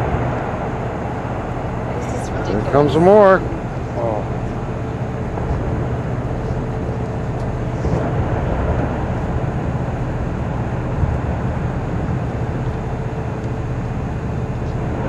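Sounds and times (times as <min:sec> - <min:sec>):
boat engine droning: 0:00.0 - 0:15.0
faint steady hum: 0:00.0 - 0:15.0
open-air noise: 0:00.0 - 0:15.0.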